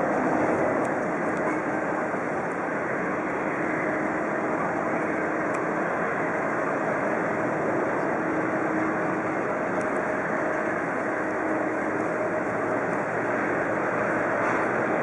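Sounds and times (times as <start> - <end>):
jet engine rush: 0.0 - 15.0.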